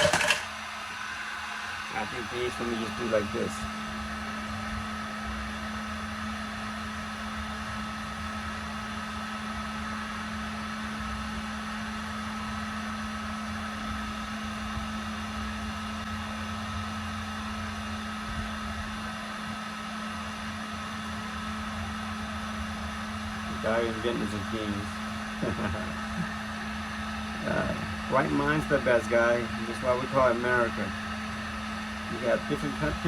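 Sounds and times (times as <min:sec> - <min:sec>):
machine hum: 0:00.0 - 0:33.0.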